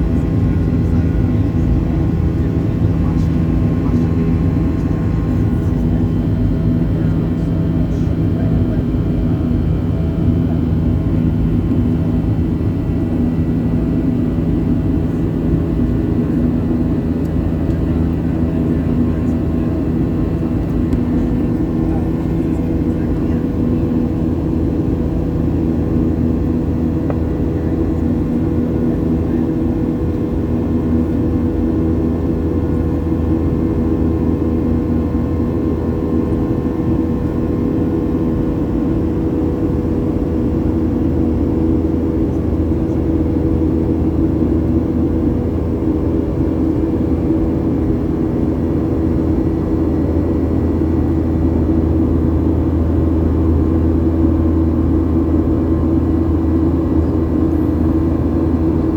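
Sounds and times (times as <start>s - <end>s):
airliner engines droning: 0.0s - 58.9s.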